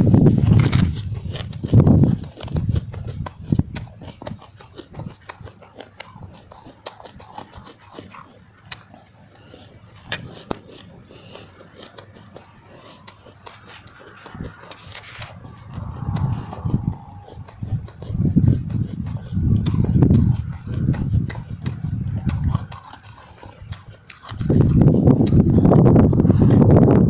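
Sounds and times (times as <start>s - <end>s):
snow crunching while chewed: 0.0s - 27.0s
mouth clicks: 0.2s - 27.0s.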